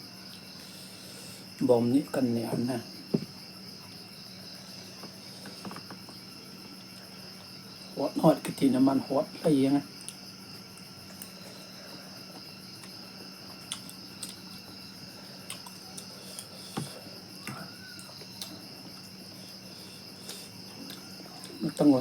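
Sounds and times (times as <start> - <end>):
insect chirring: 0.0 - 22.0.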